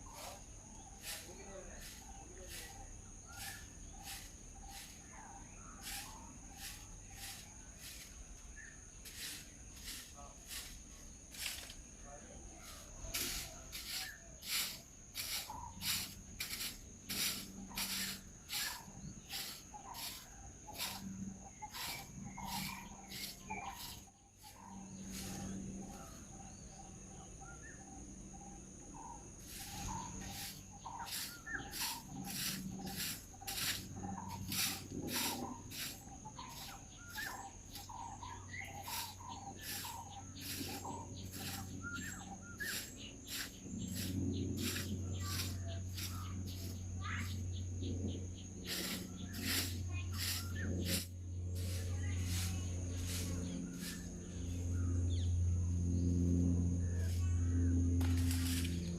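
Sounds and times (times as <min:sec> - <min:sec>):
insect high-pitched trill: 0:00.0 - 0:58.9
insect pulsing call: 0:00.0 - 0:58.9.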